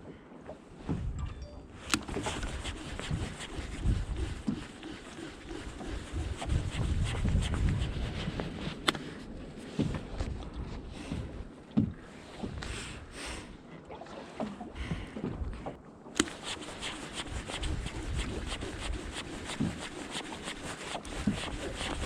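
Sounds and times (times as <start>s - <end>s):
waves slapping boat hull: 1.8s - 22.0s.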